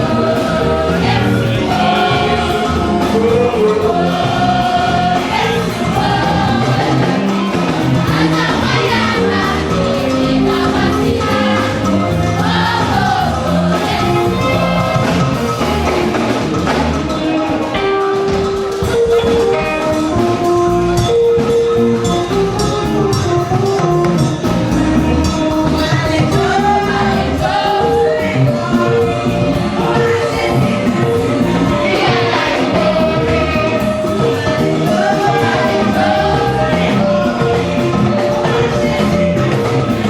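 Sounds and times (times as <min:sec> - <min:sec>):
held instrument notes: 0:00.0 - 0:40.0
steady percussion beat: 0:00.0 - 0:40.0
voices singing gospel: 0:00.0 - 0:40.0.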